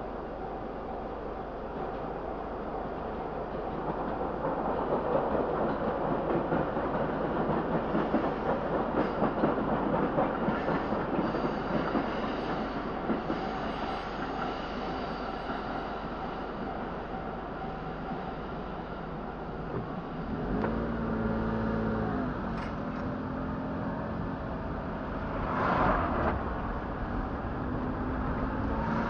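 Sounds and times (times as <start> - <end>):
electric train passing: 0.0 - 29.0.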